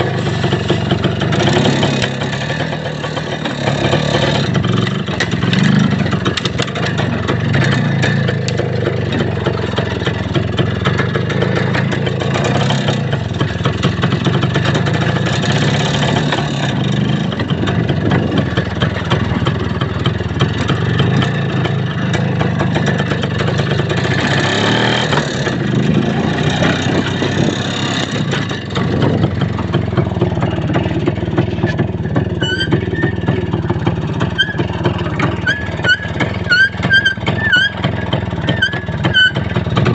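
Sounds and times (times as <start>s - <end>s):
rattling and knocking: 0.0s - 39.9s
vehicle engine running: 0.0s - 39.9s.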